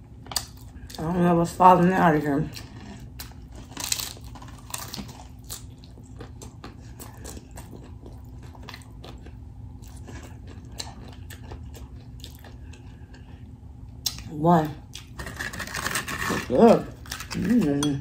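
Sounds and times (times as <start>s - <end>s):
person chewing crunchy taco: 2.2s - 14.3s, 14.9s - 17.8s.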